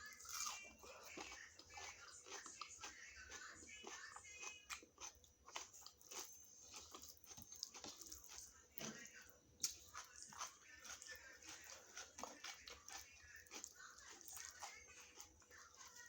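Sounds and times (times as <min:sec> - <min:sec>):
person chewing with mouth clicks: 0:00.0 - 0:08.5, 0:09.6 - 0:16.0.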